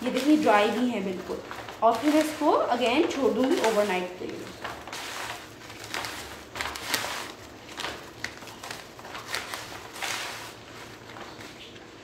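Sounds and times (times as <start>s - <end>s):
hands rustling newspaper: 0.0s - 12.0s.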